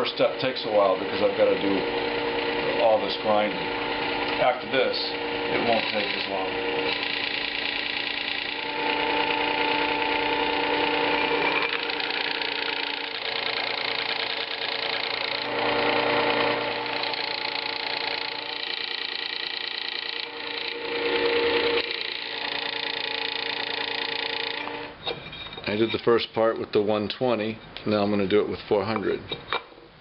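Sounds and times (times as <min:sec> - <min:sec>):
chisel grinding on abrasive: 0:00.0 - 0:25.0
sharpener motor humming: 0:00.1 - 0:25.0.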